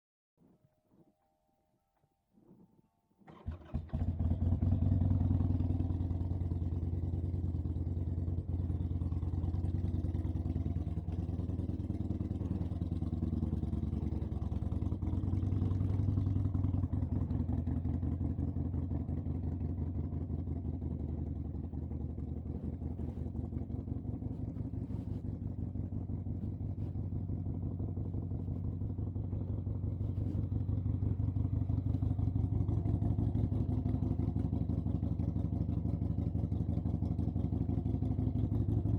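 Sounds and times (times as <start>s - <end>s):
engine running steadily: 3.3s - 38.9s.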